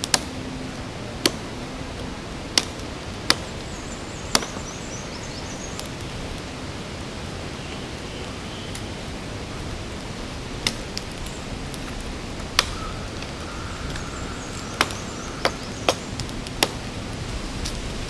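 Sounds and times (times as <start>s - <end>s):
campfire hissing: 0.0s - 18.0s
fire popping and cracking: 1.2s - 18.0s.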